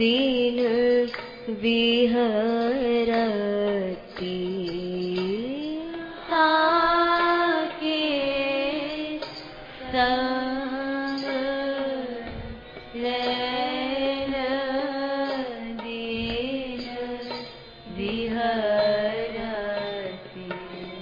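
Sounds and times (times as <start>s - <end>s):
person singing devotional song: 0.0s - 21.0s.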